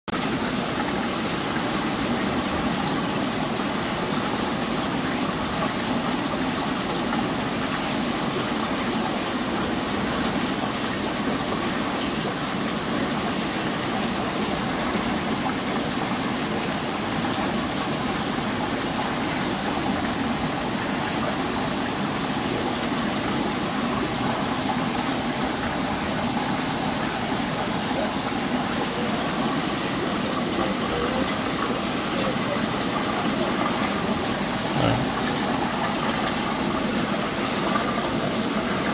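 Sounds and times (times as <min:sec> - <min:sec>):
aquarium water bubbling: 0:00.1 - 0:38.9.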